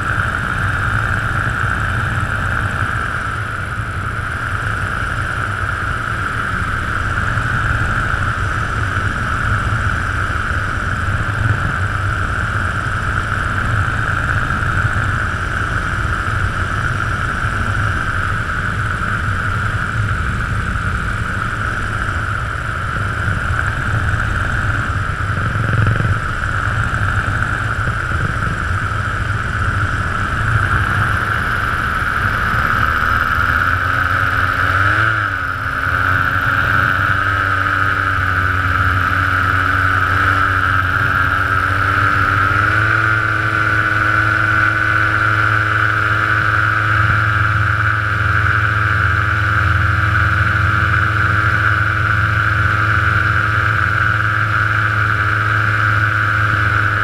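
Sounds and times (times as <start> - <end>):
paramotor engine drone: 0.0 - 57.0.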